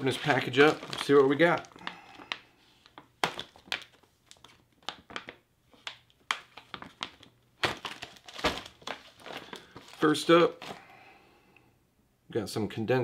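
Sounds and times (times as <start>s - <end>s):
plastic pouch crinkling: 0.0s - 10.9s.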